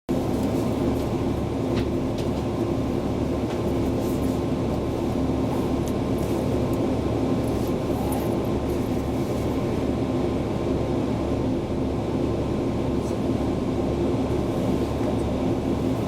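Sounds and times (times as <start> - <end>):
train interior low hum: 0.1 - 16.0.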